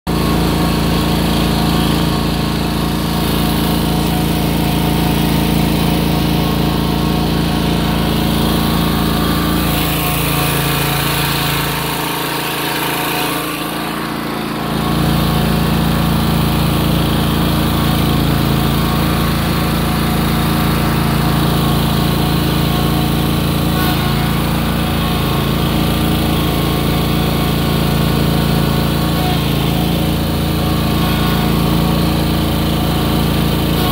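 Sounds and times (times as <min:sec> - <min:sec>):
lawn mower engine running: 0:00.1 - 0:33.9.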